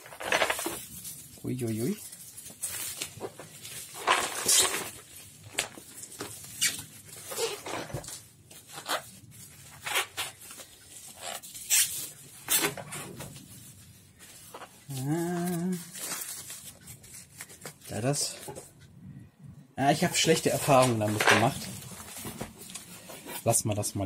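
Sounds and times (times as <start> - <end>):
packaging and bubble wrap rustling: 0.0 - 18.8, 19.8 - 23.6.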